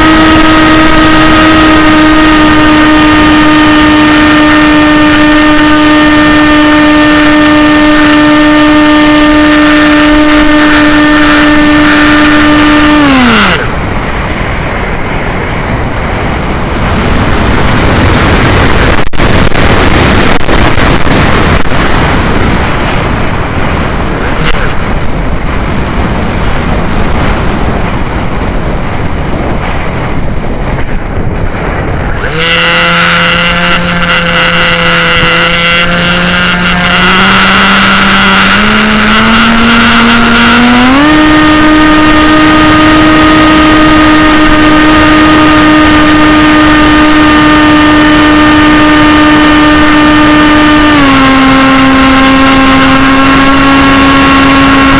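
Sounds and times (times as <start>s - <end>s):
electric motor and propeller whine: 0.0s - 54.9s
wind rushing over microphone: 0.0s - 54.9s.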